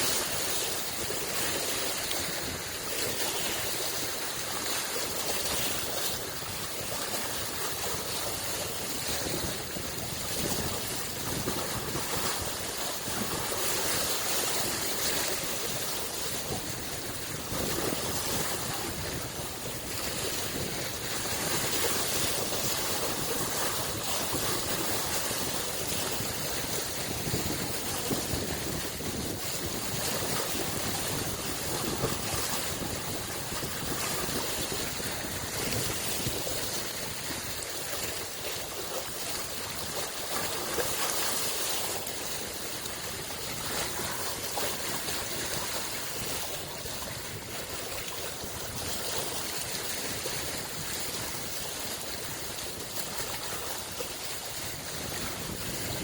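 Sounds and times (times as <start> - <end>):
lake waves lapping at shore: 0.0 - 56.0.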